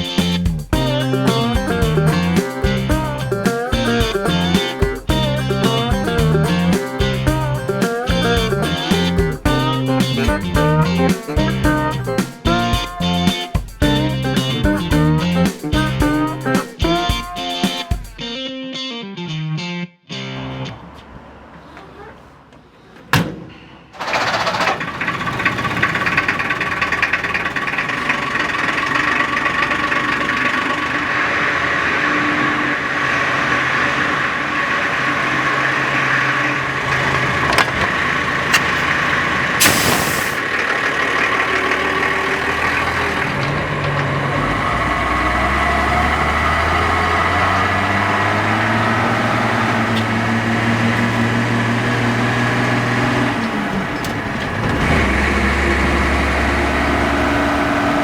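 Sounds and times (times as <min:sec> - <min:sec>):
diesel truck engine starting and running: 0:00.0 - 0:16.6, 0:20.7 - 0:58.0.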